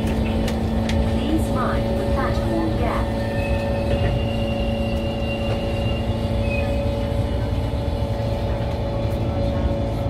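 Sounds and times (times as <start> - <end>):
metro train rumbling on track: 0.0 - 10.0.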